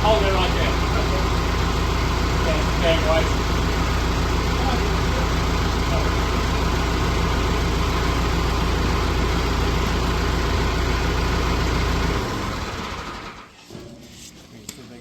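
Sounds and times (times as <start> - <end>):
vehicle engine idling: 0.0 - 13.6.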